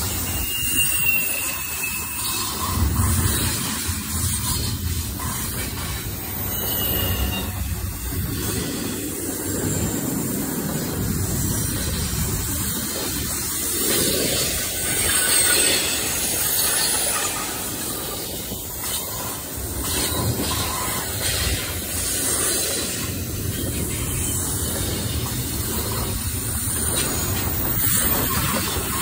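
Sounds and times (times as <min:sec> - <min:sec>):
steel wheels rumbling on rails: 0:00.0 - 0:29.0
wheels clacking over rail joints: 0:00.0 - 0:29.0.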